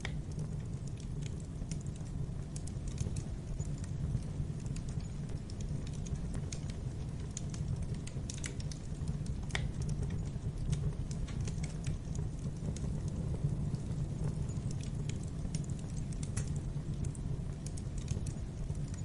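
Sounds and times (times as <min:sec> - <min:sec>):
fire crackles and pops: 0:00.0 - 0:19.0
fire rumbling in a fireplace: 0:00.0 - 0:19.0.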